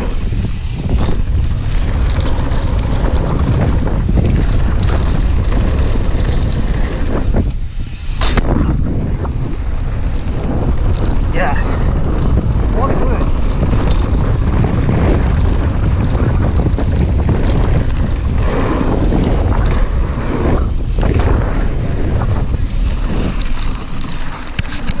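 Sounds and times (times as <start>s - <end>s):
bike clicking and rattling: 0.0s - 25.0s
tyres on gravel: 0.0s - 25.0s
wind buffeting microphone: 0.0s - 25.0s.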